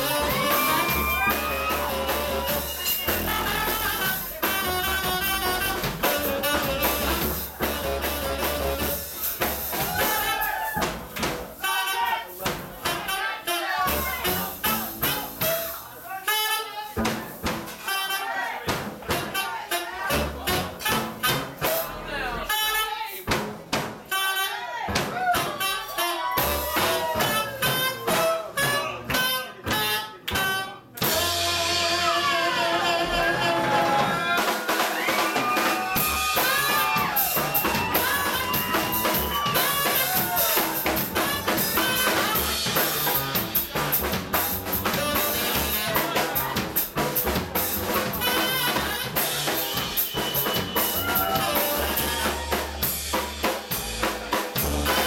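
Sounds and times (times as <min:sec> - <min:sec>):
drum kit beat: 0:00.0 - 0:55.0
jazz band playing: 0:00.0 - 0:55.0.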